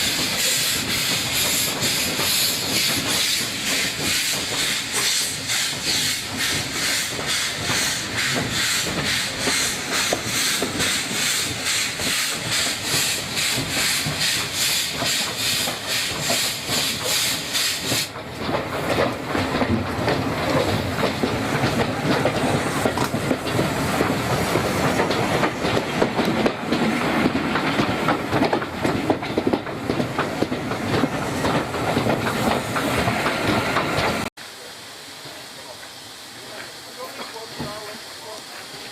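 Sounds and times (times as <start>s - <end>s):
train rumble and clatter: 0.0s - 34.3s, 35.2s - 38.9s
steam hissing: 0.0s - 38.9s
steam locomotive chuffing: 0.0s - 38.9s.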